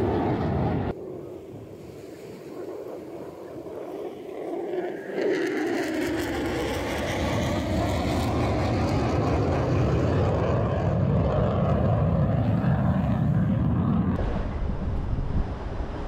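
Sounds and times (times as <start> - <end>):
fighter jet passing: 0.0 - 1.4, 2.5 - 16.0.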